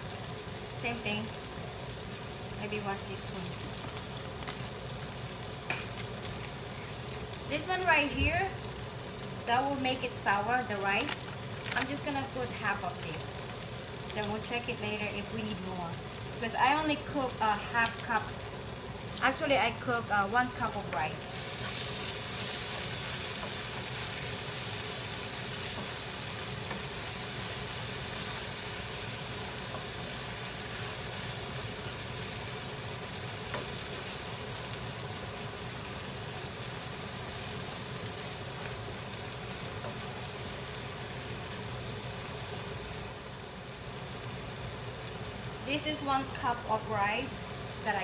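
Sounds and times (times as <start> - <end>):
tomatoes sizzling in oil: 0.0 - 48.0.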